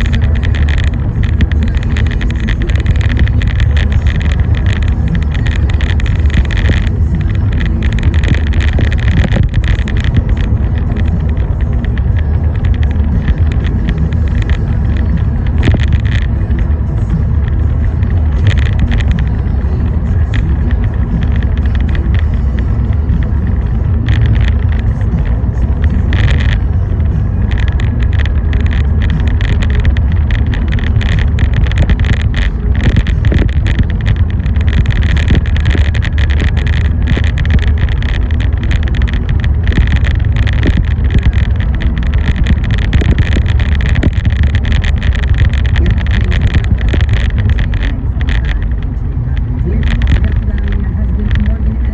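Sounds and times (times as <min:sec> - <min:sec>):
car road and engine rumble: 0:00.0 - 0:51.9.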